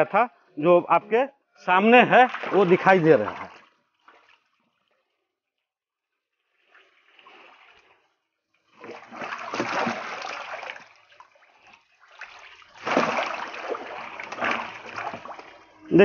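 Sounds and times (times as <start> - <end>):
water splashing in a metal tub: 2.0 - 5.3, 6.3 - 16.0.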